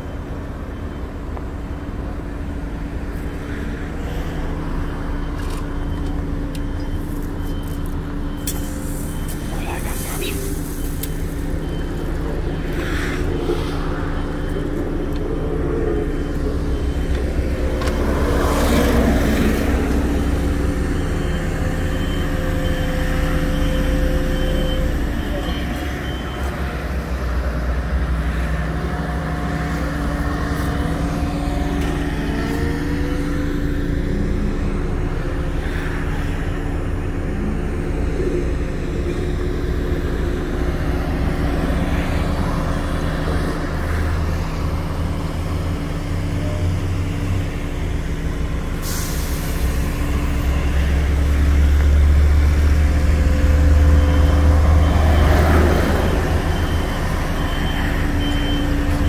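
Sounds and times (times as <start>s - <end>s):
heavy truck engine rumbling: 0.0s - 59.0s.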